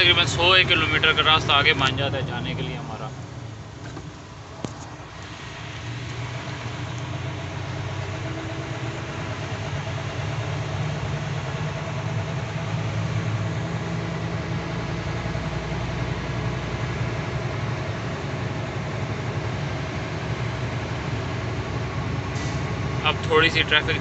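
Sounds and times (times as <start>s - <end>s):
truck diesel engine humming: 0.0s - 24.0s.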